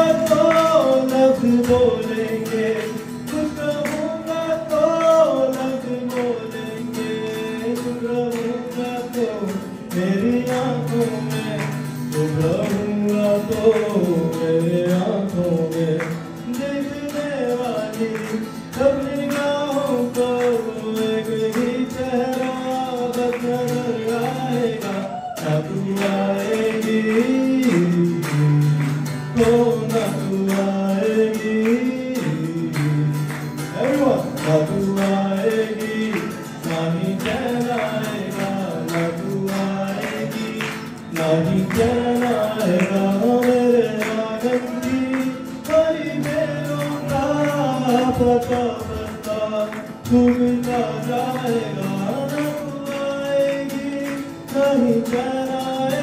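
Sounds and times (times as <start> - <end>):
acoustic guitar strumming: 0.0 - 56.0
man singing: 0.0 - 56.0.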